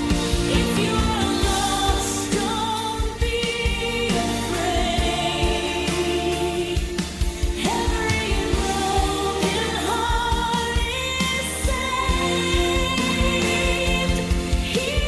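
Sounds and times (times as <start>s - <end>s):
drum beat: 0.0s - 15.0s
person singing: 0.0s - 15.0s.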